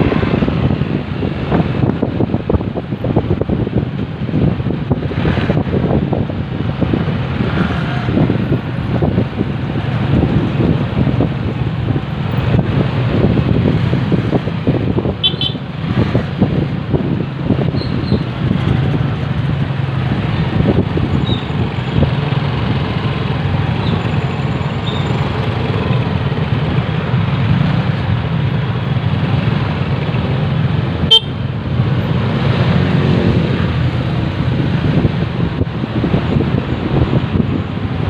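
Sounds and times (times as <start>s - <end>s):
wind noise on microphone: 0.0s - 38.0s.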